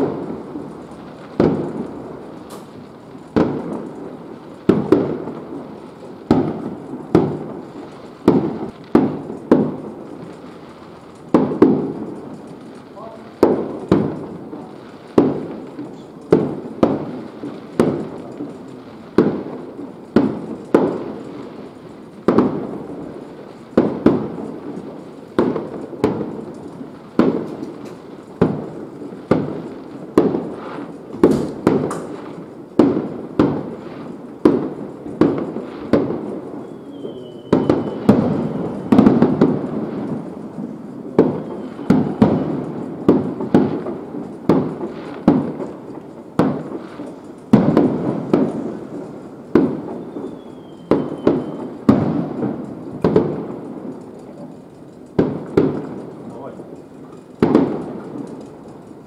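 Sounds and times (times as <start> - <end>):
fireworks shells bursting: 0.0 - 59.0.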